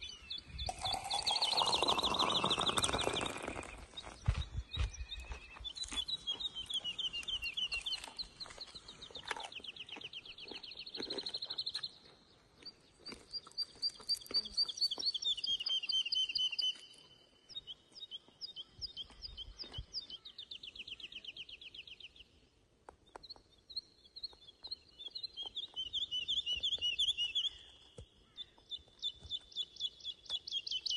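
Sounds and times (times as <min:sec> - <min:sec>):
songbirds singing trills: 0:00.0 - 0:30.9.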